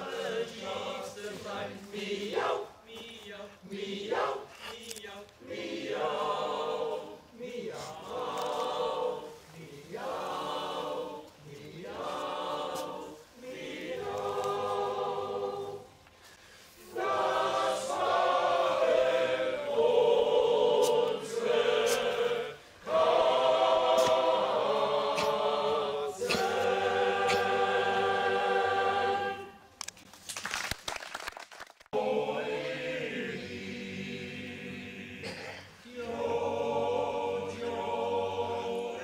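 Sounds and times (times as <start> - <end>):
choir singing: 0.0 - 16.1, 16.7 - 29.8, 32.0 - 39.0.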